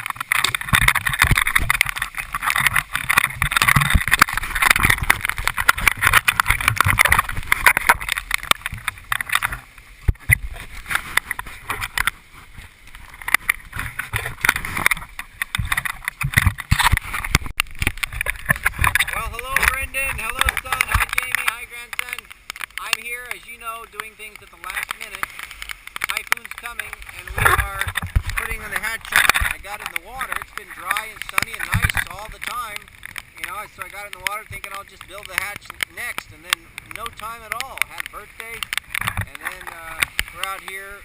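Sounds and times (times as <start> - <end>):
wind buffeting microphone: 0.0 - 22.2, 25.1 - 41.0.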